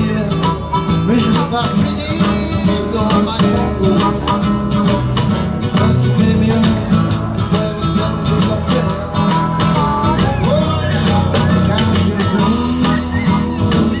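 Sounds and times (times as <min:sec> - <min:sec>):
drums: 0:00.0 - 0:14.0
harmonica: 0:00.0 - 0:14.0
strummed acoustic guitars: 0:00.0 - 0:14.0.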